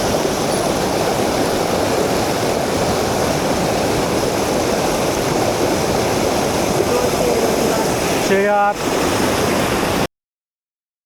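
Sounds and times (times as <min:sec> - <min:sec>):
stream water rushing: 0:00.0 - 0:10.1.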